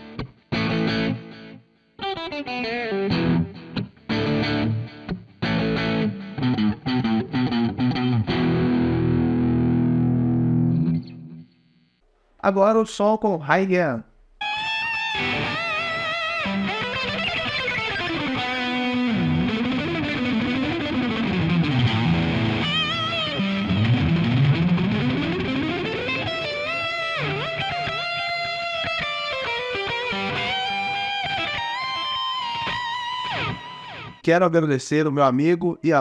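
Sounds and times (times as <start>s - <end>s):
distorted electric guitar: 0.0s - 11.5s, 14.2s - 34.2s.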